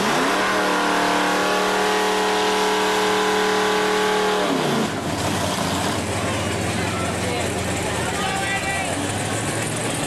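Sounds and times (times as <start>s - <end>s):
engine revving: 0.0s - 8.1s.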